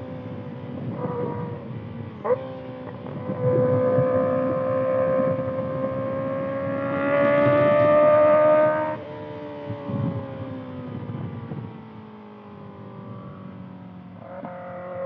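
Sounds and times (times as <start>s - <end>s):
motorcycle engine accelerating: 0.0s - 11.8s, 12.4s - 15.0s.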